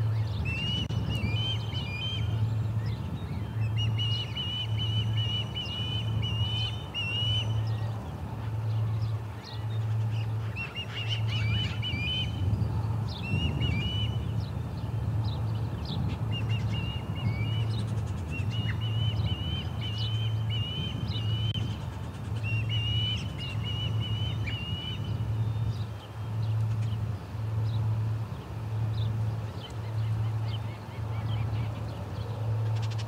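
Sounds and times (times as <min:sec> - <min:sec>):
pulsing low hum: 0:00.0 - 0:33.0
small birds chirping: 0:00.0 - 0:33.0.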